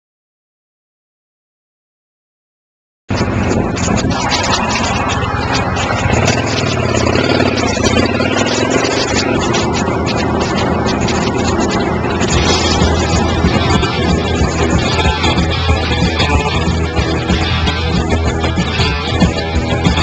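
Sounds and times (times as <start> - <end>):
motorcycle engine running: 3.1 - 20.0.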